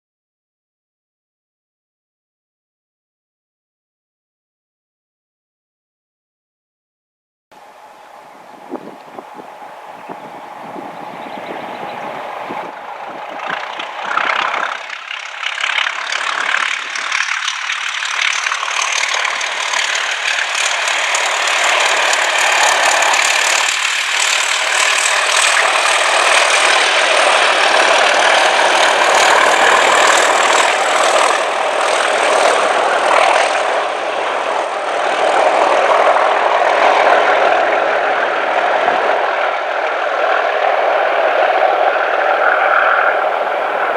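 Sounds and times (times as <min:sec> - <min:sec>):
diesel locomotives passing: 0:07.6 - 0:43.9.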